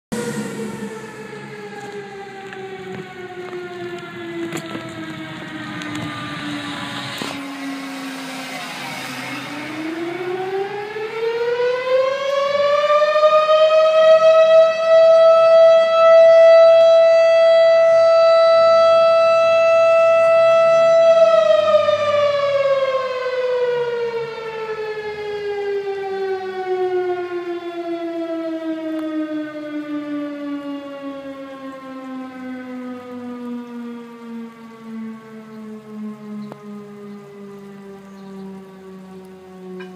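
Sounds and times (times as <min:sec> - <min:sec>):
fire siren wailing: 0:00.0 - 0:39.9.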